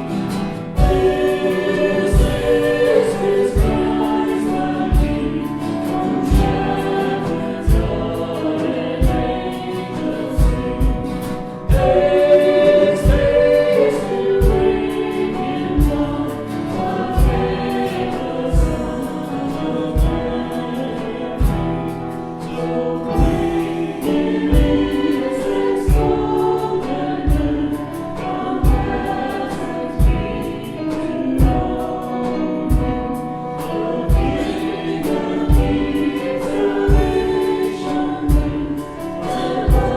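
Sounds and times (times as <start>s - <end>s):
choir singing gospel song: 0.0s - 39.9s
instrumental backing with drum beat: 0.0s - 39.9s.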